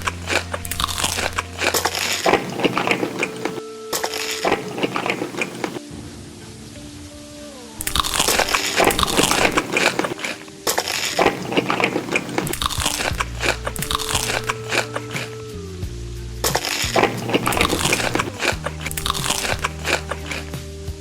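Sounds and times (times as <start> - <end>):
crunching crisp food: 0.0 - 5.8, 7.8 - 15.5, 16.4 - 20.7
background music: 0.0 - 21.0.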